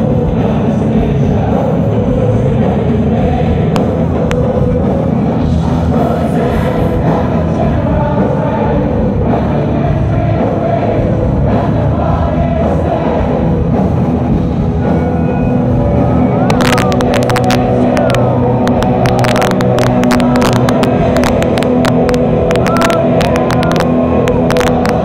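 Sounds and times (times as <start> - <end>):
live rock band playing: 0.0 - 25.0
many voices singing: 0.0 - 25.0.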